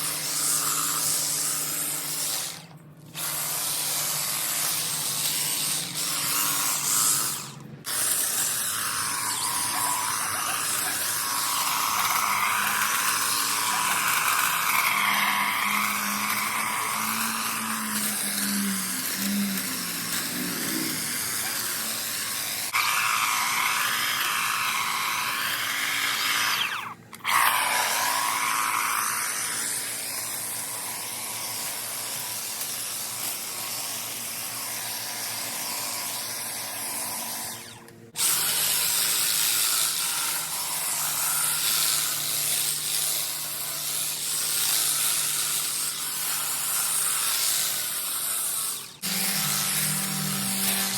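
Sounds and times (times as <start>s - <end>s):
electric hedge trimmer buzzing: 0.0s - 50.9s.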